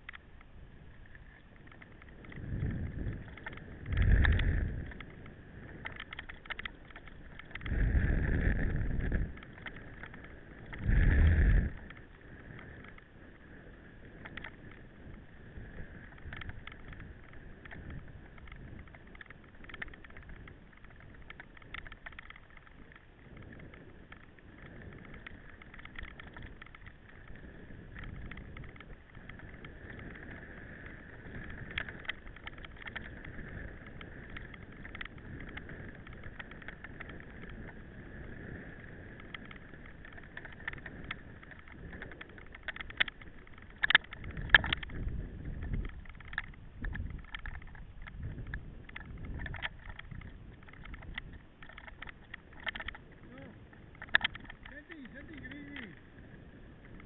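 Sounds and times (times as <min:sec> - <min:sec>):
bike whirring with rattles: 0:00.0 - 0:57.0.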